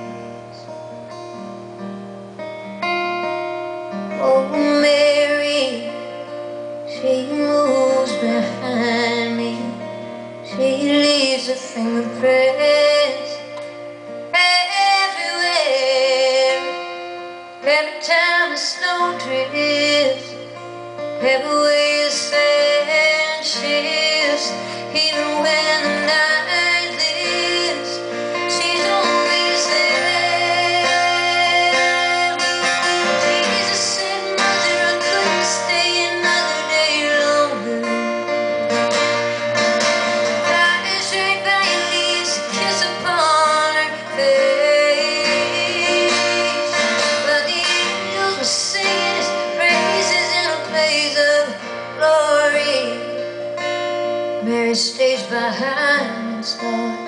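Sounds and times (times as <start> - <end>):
acoustic guitar: 0.0 - 57.0
woman singing: 2.8 - 57.0.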